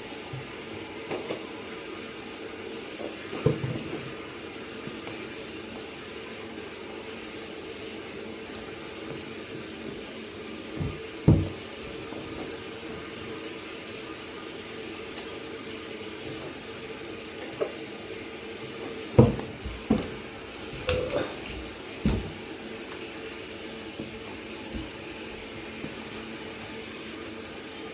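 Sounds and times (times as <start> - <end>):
water running from tap: 0.0 - 27.9.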